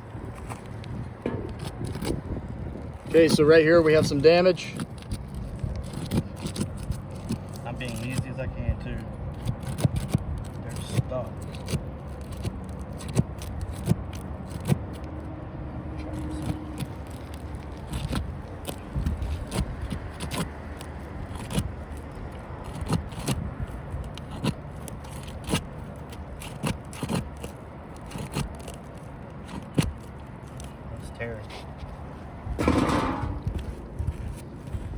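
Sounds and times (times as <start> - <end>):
roof shingles scraping and cracking: 0.2 - 8.4, 9.3 - 14.8, 16.1 - 34.9.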